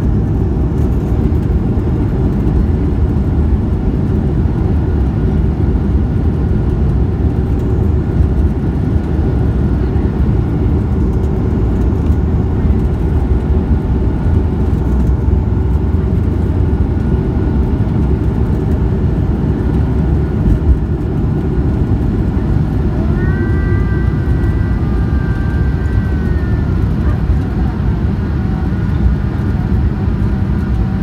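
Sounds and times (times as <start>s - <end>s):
jet engine and runway rumble: 0.0s - 31.0s.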